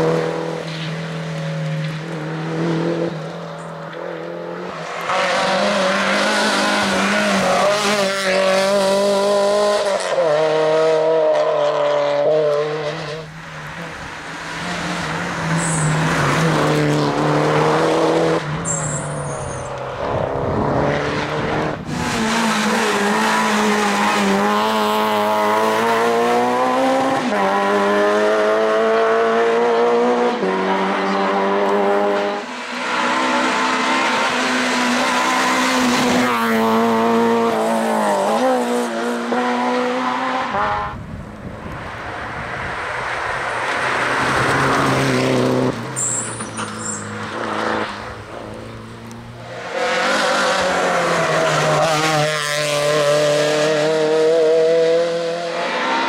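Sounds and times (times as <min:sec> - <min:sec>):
rally car engine accelerating: 0:01.6 - 0:41.1, 0:42.6 - 0:56.0.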